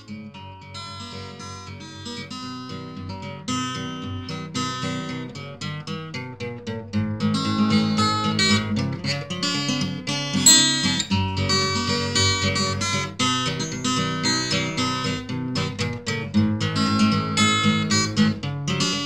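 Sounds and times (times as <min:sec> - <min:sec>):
acoustic guitar plucking and strumming: 0:00.0 - 0:19.0.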